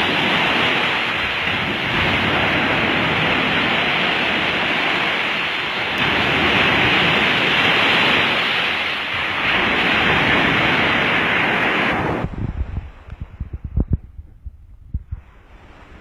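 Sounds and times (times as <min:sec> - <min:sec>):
sea waves breaking against seawall: 0:00.0 - 0:13.8, 0:14.9 - 0:16.0.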